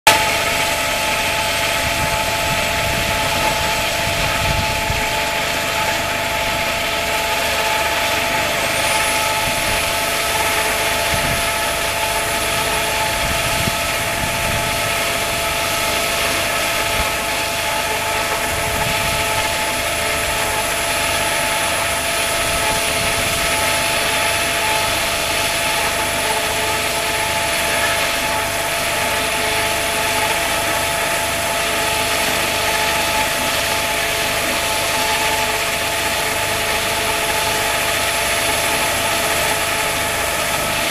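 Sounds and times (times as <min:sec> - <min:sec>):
high whine: 0:00.1 - 0:40.9
wire saw cutting concrete: 0:00.1 - 0:40.9.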